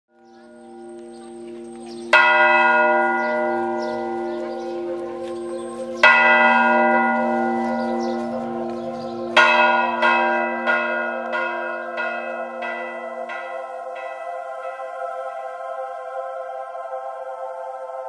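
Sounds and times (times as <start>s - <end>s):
church bell ringing: 0.1s - 18.0s.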